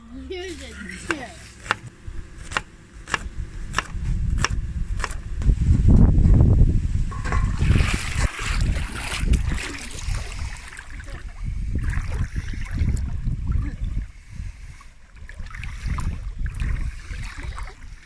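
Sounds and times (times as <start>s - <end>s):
water splashing and lapping: 0.0s - 3.9s, 7.1s - 18.0s
wind buffeting microphone: 0.3s - 18.0s.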